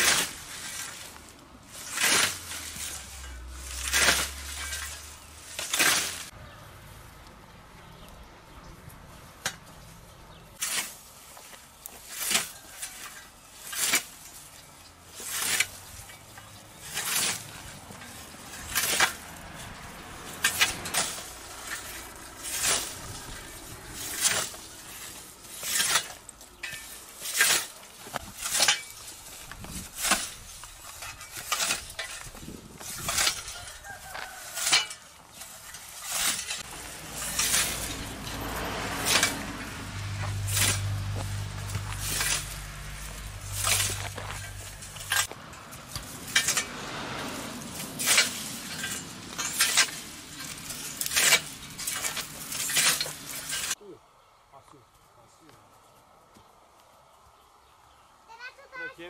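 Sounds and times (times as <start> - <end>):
scythe swishing through grass: 0.0 - 6.3, 10.6 - 53.8.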